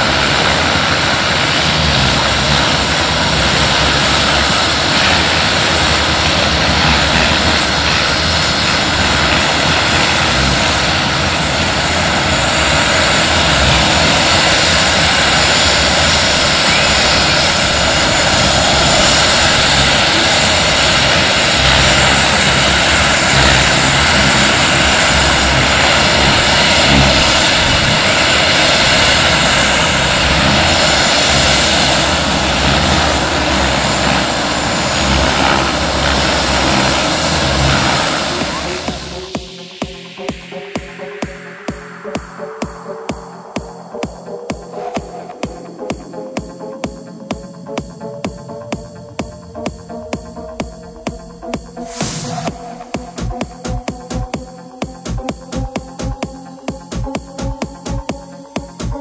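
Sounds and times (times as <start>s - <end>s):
model gas turbine whine: 0.0s - 59.0s
turbine and rotor rush: 0.0s - 59.0s.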